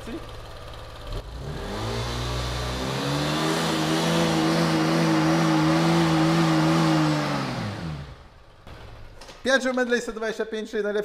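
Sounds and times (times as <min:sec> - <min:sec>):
scooter engine revving: 0:00.0 - 0:09.1.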